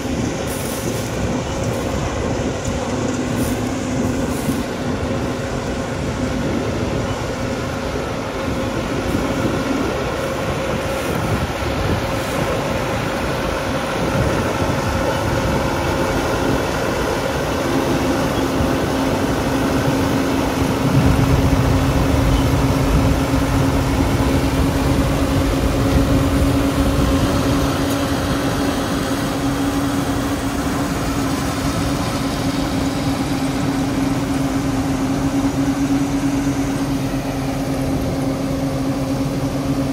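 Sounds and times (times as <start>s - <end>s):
harvester machine running: 0.0s - 39.9s.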